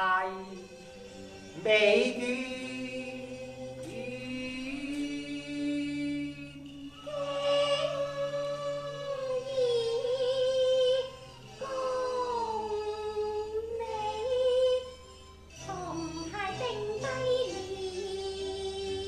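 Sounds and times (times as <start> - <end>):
opera singing with vibrato: 0.0 - 15.0, 15.6 - 19.0
accompanying music: 0.0 - 19.0.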